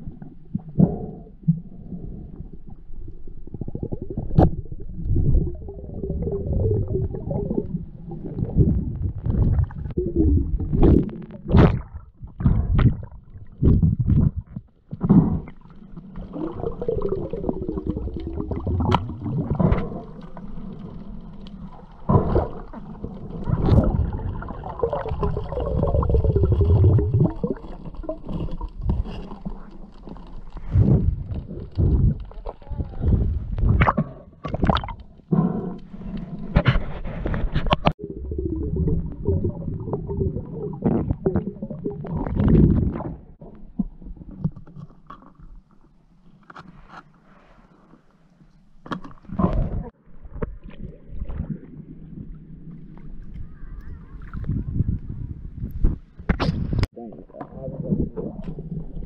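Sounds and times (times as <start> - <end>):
underwater rumbling of water: 0.0 - 59.0.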